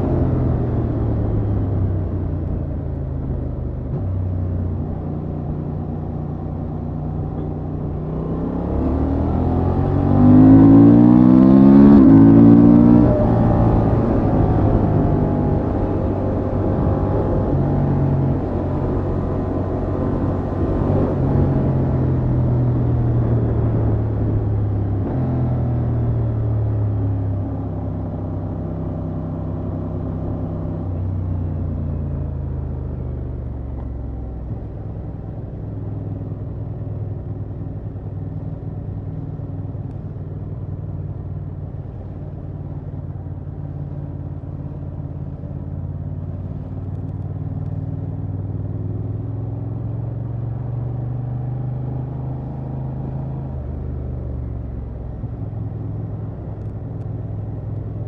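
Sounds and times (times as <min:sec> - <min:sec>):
motorcycle engine cruising: 0:00.0 - 0:58.0
road noise: 0:00.0 - 0:58.0.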